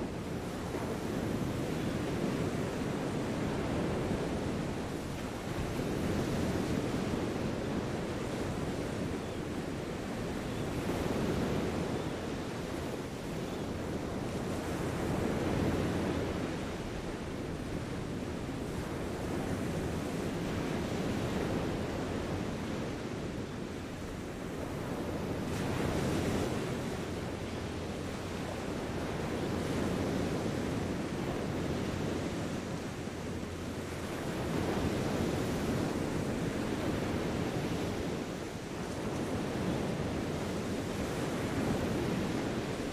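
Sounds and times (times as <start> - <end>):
small waves washing onto sand: 0.0 - 42.9
wind on microphone: 0.0 - 42.9.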